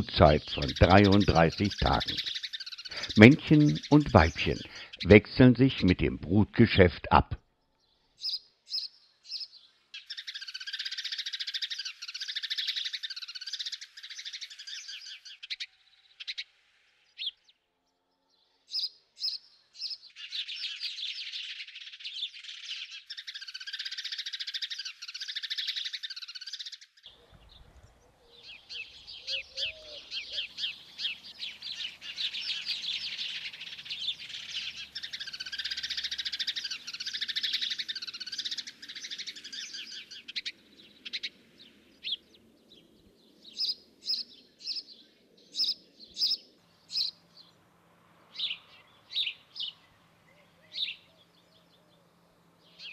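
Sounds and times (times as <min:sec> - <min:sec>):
songbirds trilling: 0:00.0 - 0:52.9.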